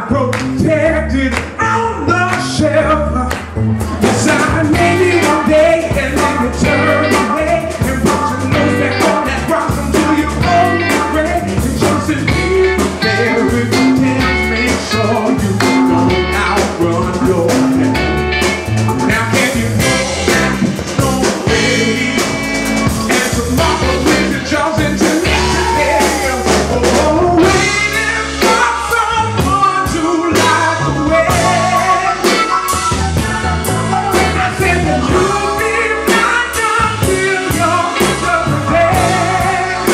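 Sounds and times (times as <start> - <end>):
man singing into microphone: 0.0 - 18.1, 18.9 - 39.9
bass guitar: 0.0 - 39.9
electric guitar: 0.0 - 39.9
drum kit beat: 3.3 - 39.9.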